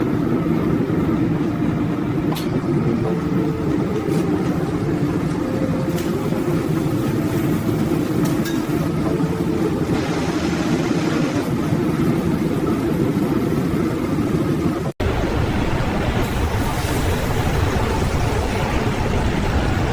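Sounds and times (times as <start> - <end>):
gas burner roaring: 0.0 - 19.9.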